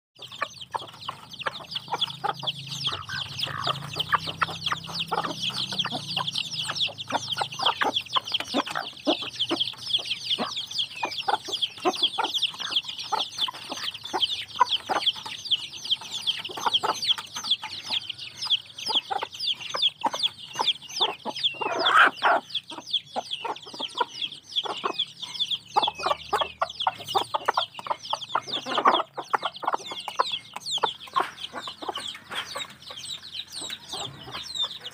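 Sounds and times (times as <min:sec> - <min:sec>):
chicks peeping: 0:00.2 - 0:34.9
hen clucking: 0:00.2 - 0:34.9.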